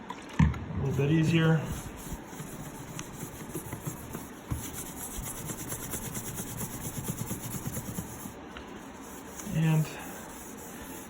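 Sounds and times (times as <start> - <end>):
hand rubbing wood floor: 0.9 - 11.0.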